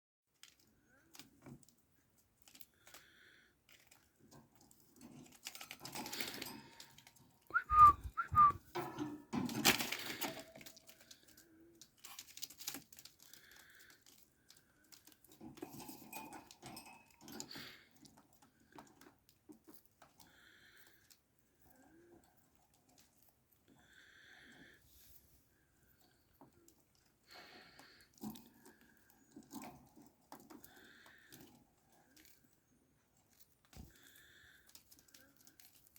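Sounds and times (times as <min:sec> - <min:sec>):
small clicks from birds: 0:00.3 - 0:07.5, 0:09.3 - 0:24.8, 0:25.6 - 0:35.9
birds rustling: 0:00.4 - 0:35.9.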